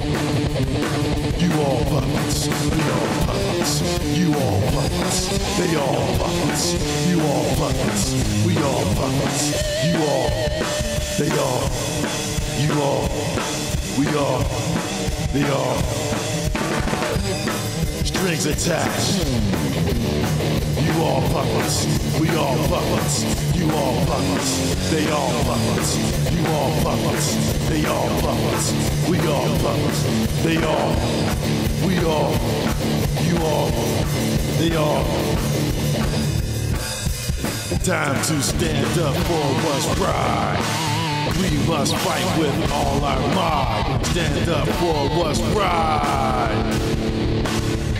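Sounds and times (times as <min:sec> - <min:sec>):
instrumental rock music: 0:00.0 - 0:47.9.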